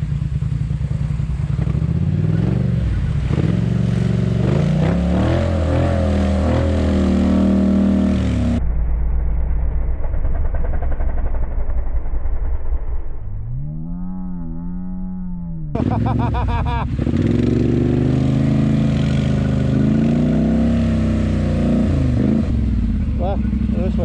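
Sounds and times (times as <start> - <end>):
atv engine revving: 0.0 - 8.6, 13.3 - 24.0.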